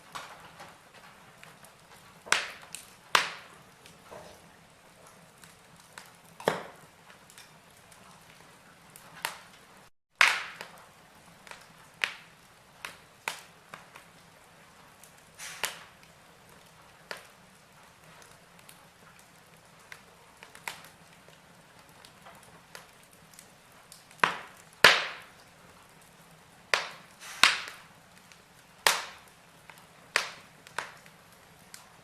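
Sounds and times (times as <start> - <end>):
burning logs crackling: 0.0 - 32.0
faint steady hiss: 0.0 - 32.0.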